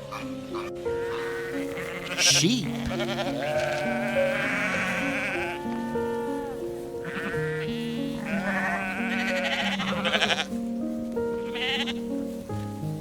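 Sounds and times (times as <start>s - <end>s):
sheep bleating: 0.0s - 10.6s, 11.4s - 12.1s
background music: 0.0s - 13.0s.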